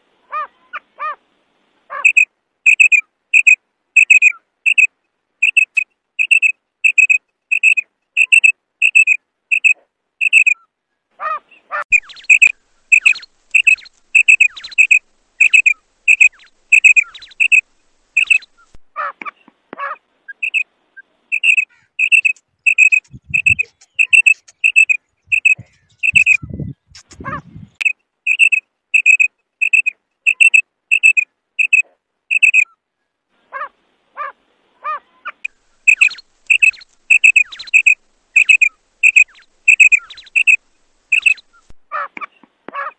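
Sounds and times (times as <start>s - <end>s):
lower sweeping bird calls: 1.9s - 10.6s, 11.5s - 18.8s, 20.3s - 32.8s, 35.2s - 42.4s
quail calling high sharp notes: 1.9s - 10.6s, 11.2s - 20.7s, 21.3s - 32.7s, 33.6s - 42.9s.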